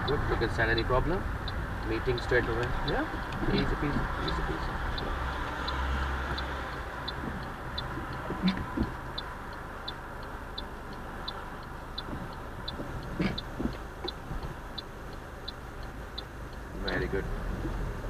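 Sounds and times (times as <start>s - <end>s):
engine and road hum: 0.0s - 18.0s
turn signal ticking: 0.0s - 18.0s.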